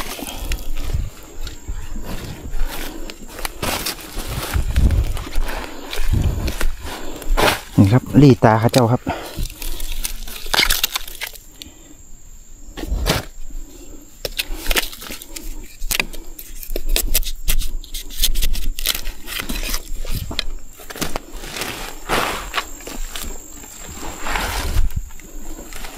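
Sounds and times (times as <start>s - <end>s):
dry bamboo snapping and rustling: 0.0s - 1.6s, 2.2s - 11.7s, 14.2s - 25.9s.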